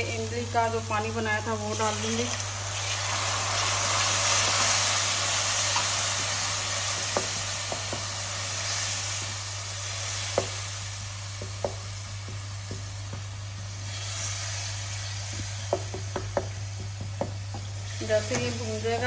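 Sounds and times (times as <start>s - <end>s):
onion masala sizzling in a pot: 0.0s - 19.0s.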